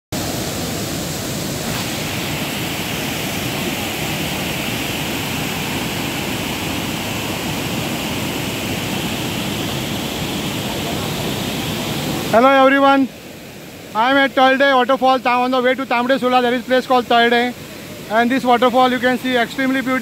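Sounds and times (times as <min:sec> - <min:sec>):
waterfall rushing over rocks: 0:00.1 - 0:20.0.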